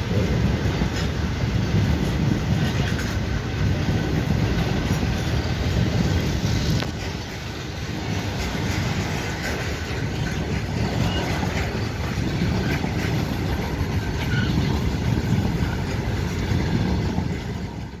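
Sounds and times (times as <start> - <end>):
train wheels rumbling on rail: 0.0 - 18.0
wagons rattling and clattering: 0.0 - 18.0.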